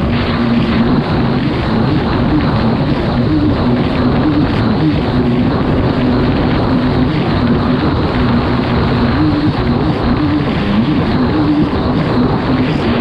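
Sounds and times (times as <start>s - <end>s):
jet ski engine running hard: 0.0s - 13.0s
rush of wind and water: 0.0s - 13.0s.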